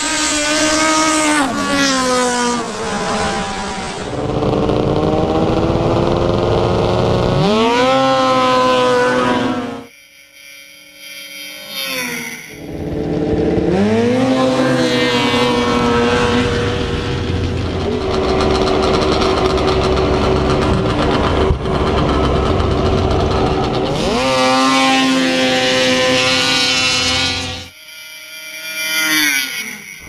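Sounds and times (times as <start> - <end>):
snowmobile engine revving: 0.0 - 9.9, 11.6 - 30.0.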